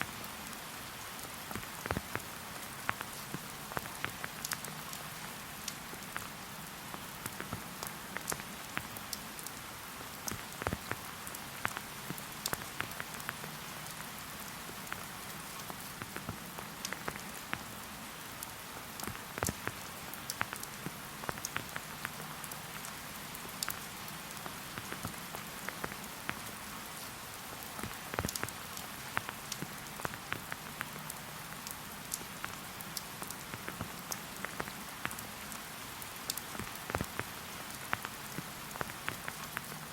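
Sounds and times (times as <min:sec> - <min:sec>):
raindrops ticking close by: 0:00.0 - 0:39.9
steady rain hissing: 0:00.0 - 0:39.9.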